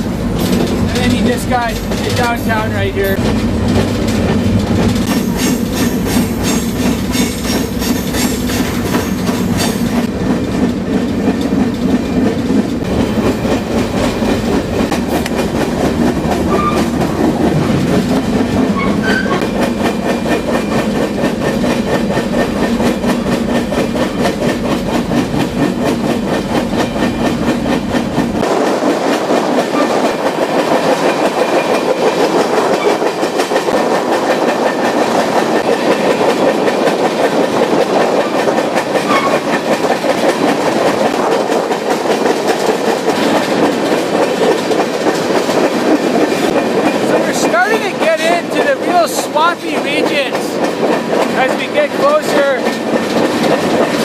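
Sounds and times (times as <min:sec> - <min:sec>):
train cars rumbling and rattling: 0:00.0 - 0:54.0
wheels clacking on rails: 0:00.0 - 0:54.0.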